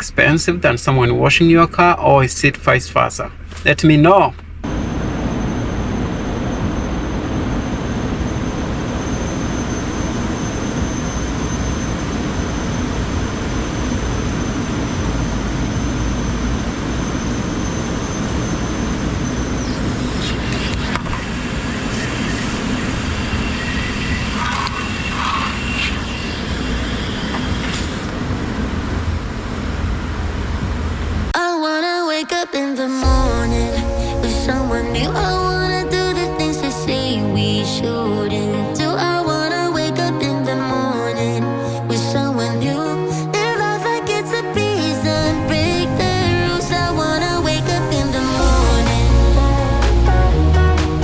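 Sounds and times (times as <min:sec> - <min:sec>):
thin high whine: 0:04.6 - 0:28.4, 0:32.6 - 0:41.1, 0:42.2 - 0:51.0.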